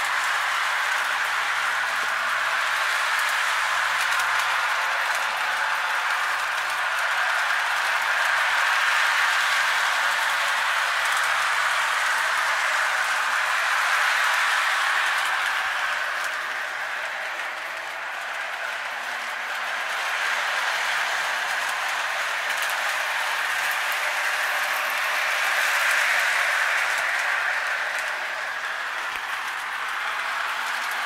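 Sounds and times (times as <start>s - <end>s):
toy train whirring on track: 0.0s - 31.0s.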